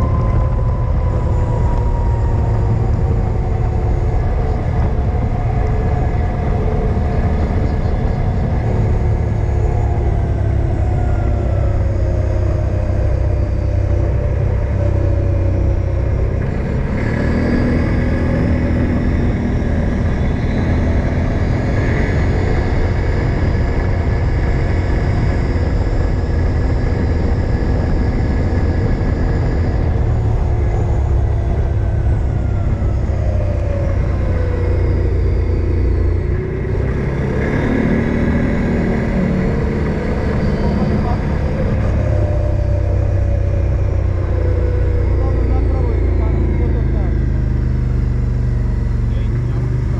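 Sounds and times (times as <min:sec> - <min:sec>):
off-road vehicle engine running: 0:00.0 - 0:49.9.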